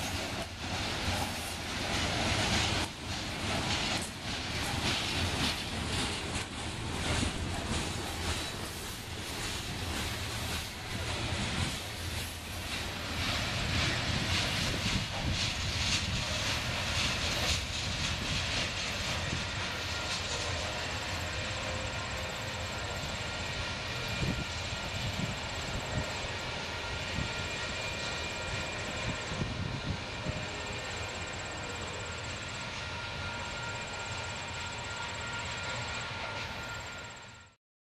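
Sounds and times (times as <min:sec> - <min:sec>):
freight train wheel clatter: 0:00.0 - 0:37.4
thin steady whine: 0:00.0 - 0:37.6
train rumble: 0:00.0 - 0:37.6.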